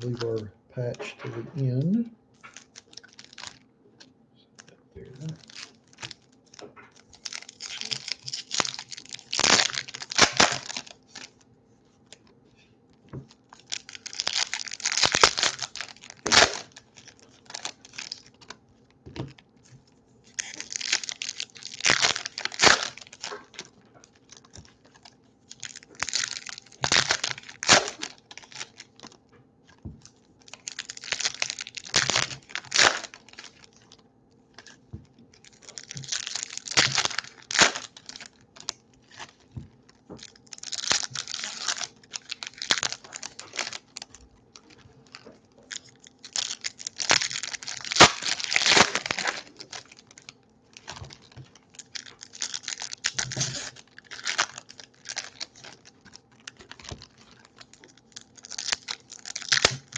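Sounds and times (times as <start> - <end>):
foil wrappers tearing and crinkling: 0.0 - 0.4, 2.4 - 3.6, 5.0 - 11.4, 13.1 - 19.4, 20.2 - 59.9.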